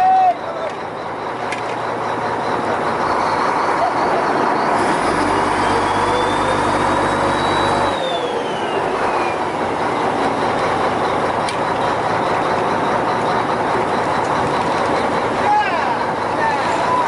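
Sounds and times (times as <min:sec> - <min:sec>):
boat engine running: 0:00.8 - 0:17.0.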